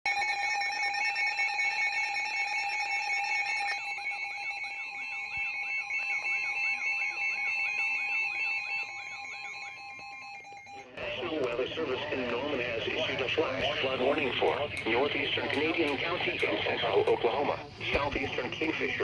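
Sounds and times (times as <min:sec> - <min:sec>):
steady alarm tones: 0:00.1 - 0:19.0.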